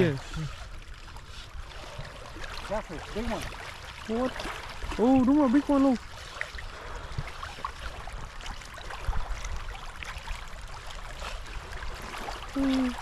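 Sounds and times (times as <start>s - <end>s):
small splashes: 0.0s - 13.0s
water trickling and lapping: 0.0s - 13.0s.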